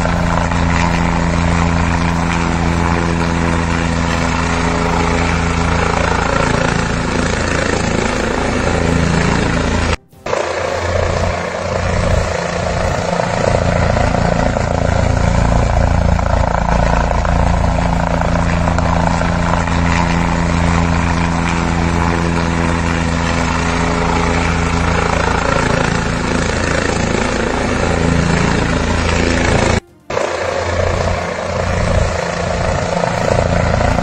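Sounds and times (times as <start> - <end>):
helicopter rotor and turbine: 0.0 - 34.0.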